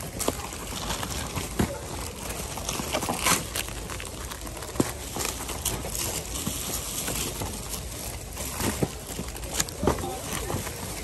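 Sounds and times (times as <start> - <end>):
packaging rustling and crackling: 0.0 - 11.0.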